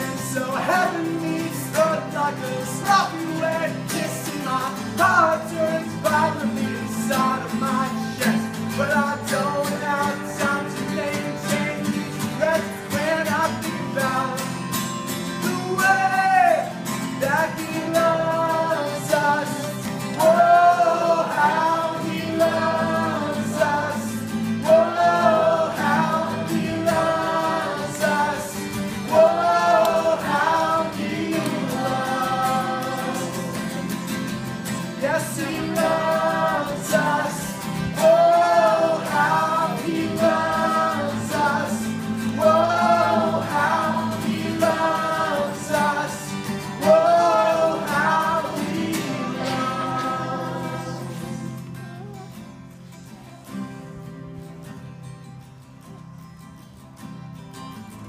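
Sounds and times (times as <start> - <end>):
people singing together: 0.0 - 52.0
strummed acoustic guitars: 0.0 - 58.0.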